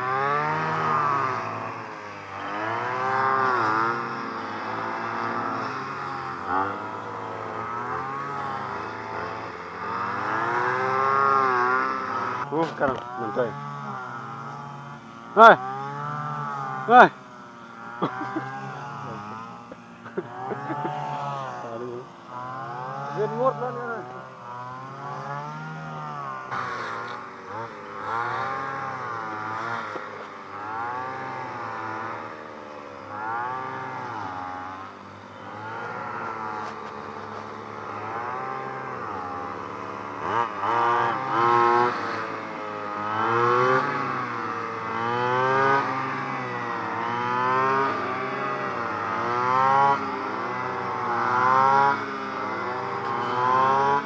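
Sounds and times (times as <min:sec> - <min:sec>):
brush-cutter engine under load: 0:00.0 - 0:54.0.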